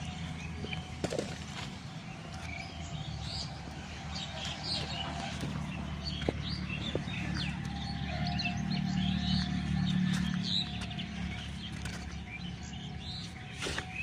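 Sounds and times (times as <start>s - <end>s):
small birds chirping: 1.7s - 14.0s.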